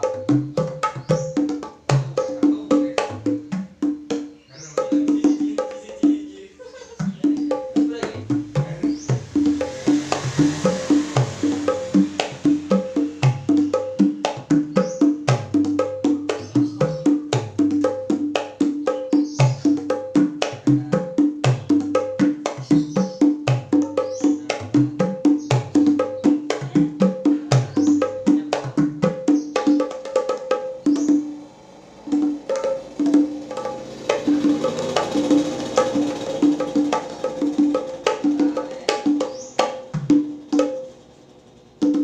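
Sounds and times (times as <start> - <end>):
hand drums played rhythmically: 0.0 - 31.5, 32.1 - 40.9, 41.8 - 42.0.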